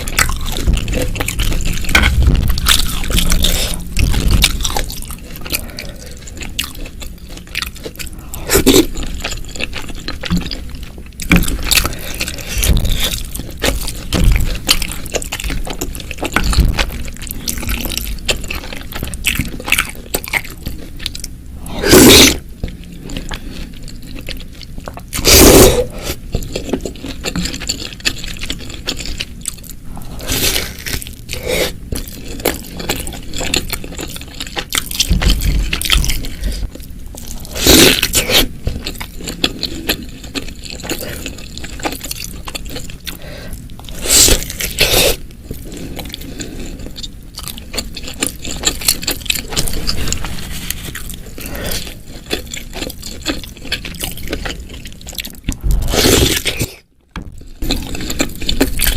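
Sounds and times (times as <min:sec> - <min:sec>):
wet chewing and crunching: 0:00.0 - 0:58.9.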